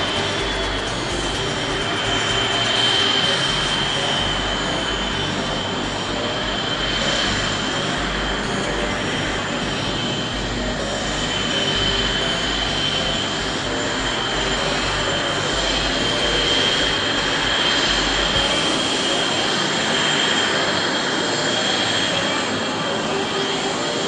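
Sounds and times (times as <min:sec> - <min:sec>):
jet engine roar with whine: 0:00.0 - 0:24.0.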